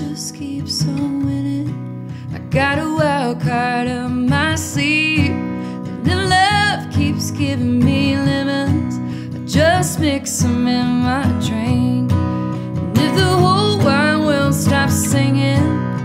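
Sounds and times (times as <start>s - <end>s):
acoustic guitar strumming: 0.0s - 16.0s
woman singing country song: 0.0s - 16.0s.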